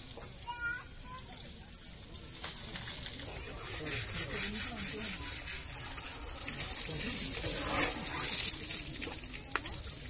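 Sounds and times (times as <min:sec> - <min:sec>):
hose water splashing: 0:00.0 - 0:10.0.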